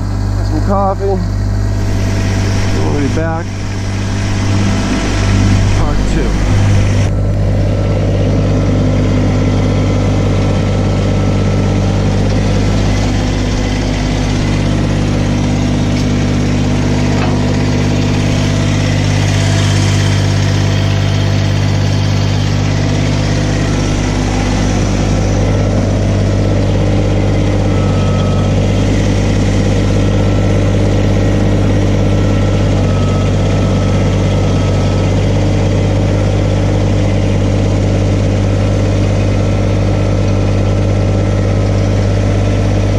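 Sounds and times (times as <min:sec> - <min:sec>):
tractor diesel engine idling: 0:00.0 - 0:42.9.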